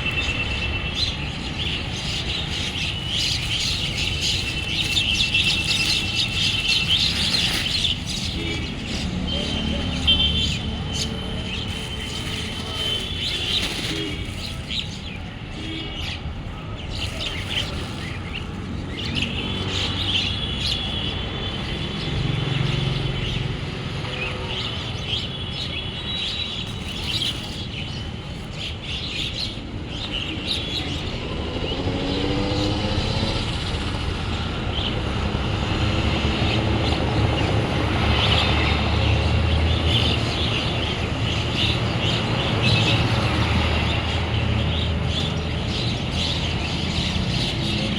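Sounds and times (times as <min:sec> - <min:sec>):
road traffic rumble: 0:00.0 - 0:47.9
small birds chirping: 0:00.0 - 0:47.9.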